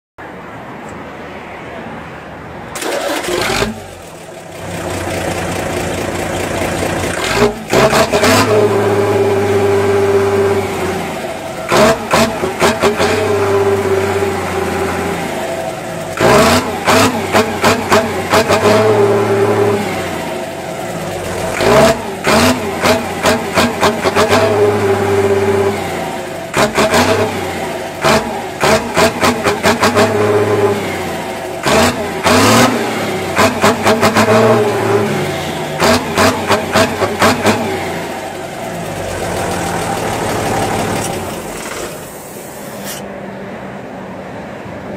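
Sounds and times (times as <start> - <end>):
truck engine revving: 2.7 - 43.1
exhaust crackling: 2.8 - 43.0.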